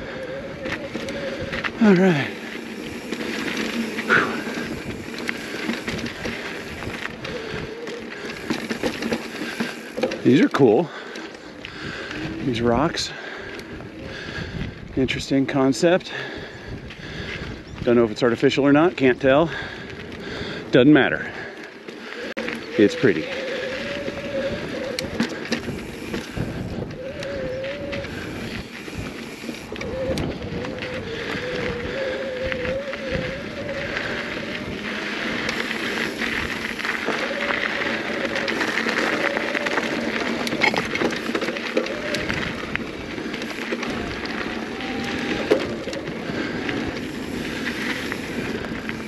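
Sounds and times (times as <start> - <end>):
freehub buzzing: 0.0 - 12.2, 21.8 - 49.0
bike rattling over bumps: 0.0 - 49.0
bike tyres on dirt and rock: 0.0 - 49.0.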